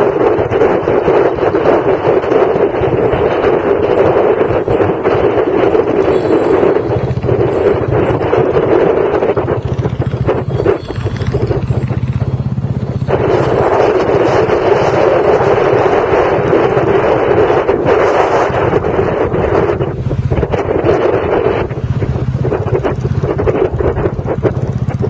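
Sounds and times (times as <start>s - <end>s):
motorcycle engine running: 0.0s - 25.0s
wind rushing over microphone: 0.0s - 25.0s.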